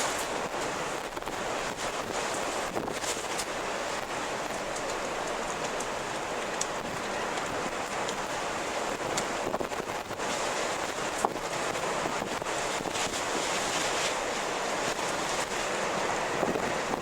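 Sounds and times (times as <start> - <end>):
faint ticks and crackles: 0.0 - 17.0
rushing wind: 0.0 - 17.0.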